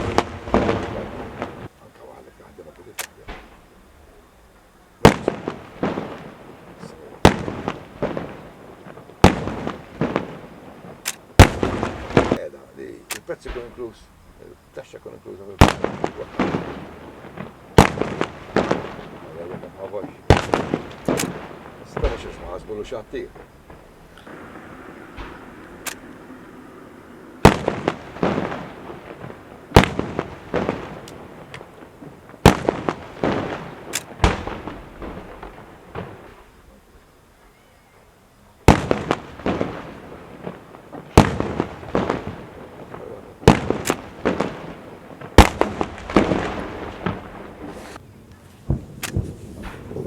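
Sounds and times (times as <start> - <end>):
fireworks bangs: 0.0 - 50.0
fireworks crackling pops: 0.0 - 50.0.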